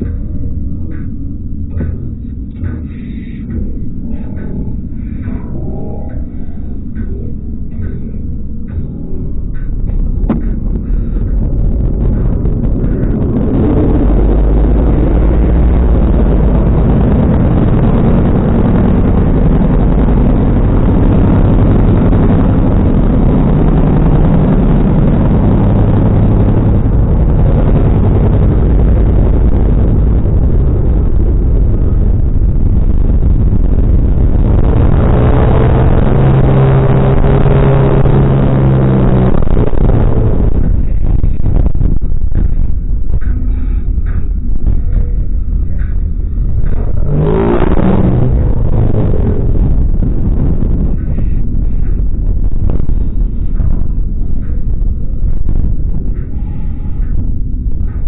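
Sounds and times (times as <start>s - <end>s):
car engine and exhaust running: 0.0s - 58.0s.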